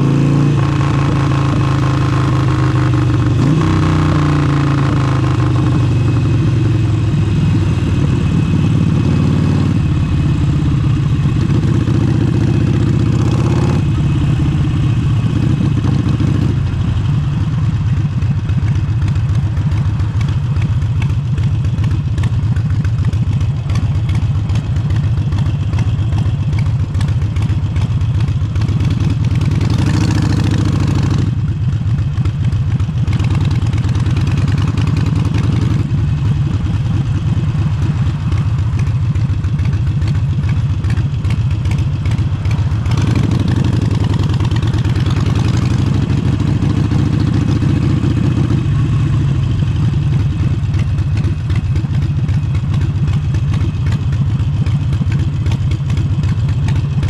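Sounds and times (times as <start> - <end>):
loud motorcycle engine revving: 0.0 - 32.2, 32.8 - 57.0.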